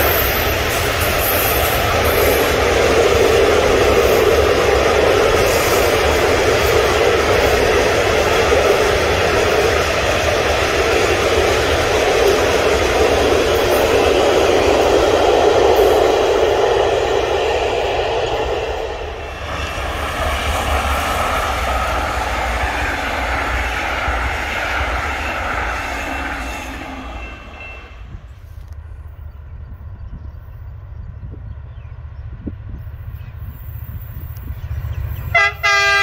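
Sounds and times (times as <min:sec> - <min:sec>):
train passing rumble: 0:00.0 - 0:36.0.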